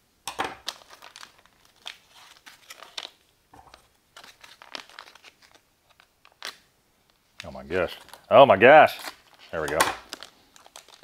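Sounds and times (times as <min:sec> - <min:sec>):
foil pouch crinkling: 0:00.6 - 0:11.0.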